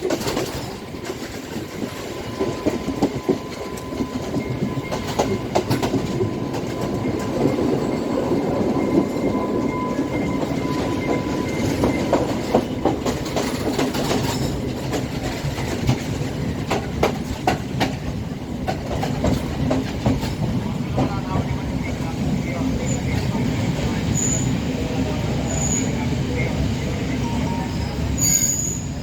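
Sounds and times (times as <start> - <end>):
clacks over rail joints: 0.0 - 24.4
train wheels rumbling: 0.0 - 29.0.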